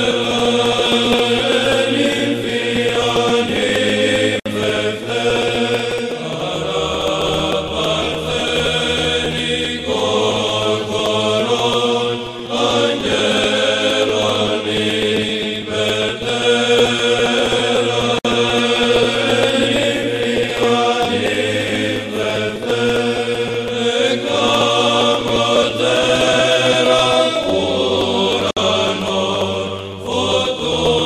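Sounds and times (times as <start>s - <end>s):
voices chanting: 0.0s - 31.0s.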